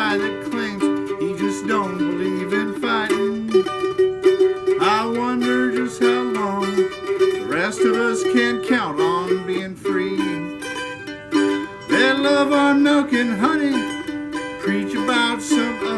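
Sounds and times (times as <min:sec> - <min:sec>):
man singing country song: 0:00.0 - 0:10.7, 0:11.8 - 0:15.9
strummed string instrument: 0:00.0 - 0:15.9.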